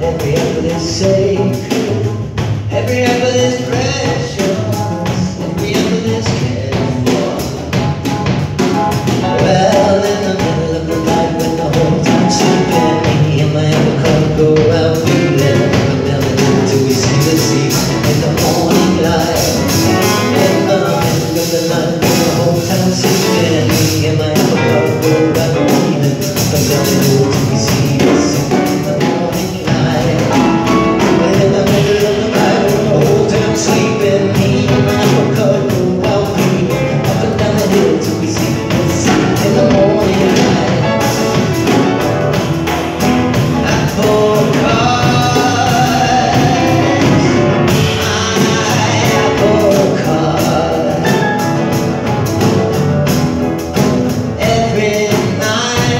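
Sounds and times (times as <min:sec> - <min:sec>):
acoustic guitar: 0:00.0 - 0:55.9
piano: 0:00.0 - 0:55.9
upright bass: 0:00.0 - 0:55.9.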